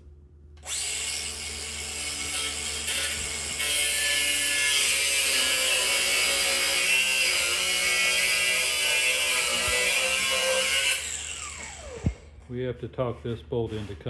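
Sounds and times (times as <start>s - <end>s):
handheld power tool running: 0.6s - 12.4s.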